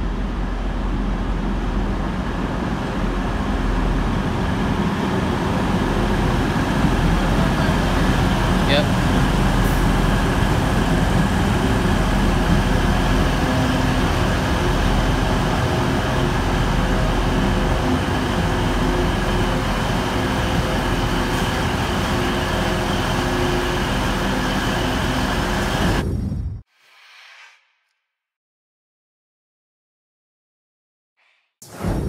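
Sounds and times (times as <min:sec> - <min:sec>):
diesel train engine droning: 0:00.0 - 0:26.1.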